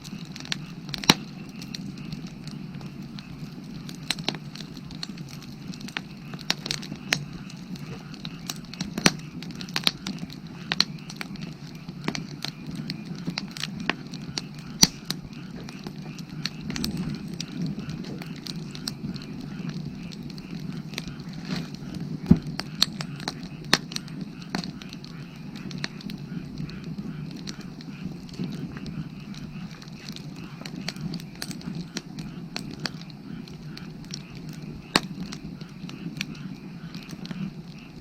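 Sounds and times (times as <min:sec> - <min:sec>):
firewood crackling and popping: 0:00.0 - 0:38.0.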